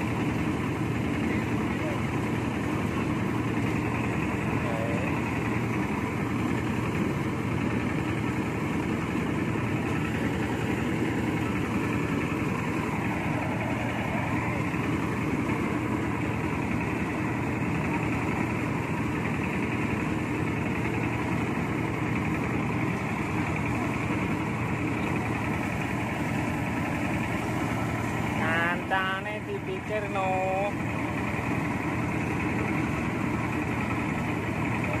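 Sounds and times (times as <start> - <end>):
rice thresher engine droning: 0.0 - 35.0.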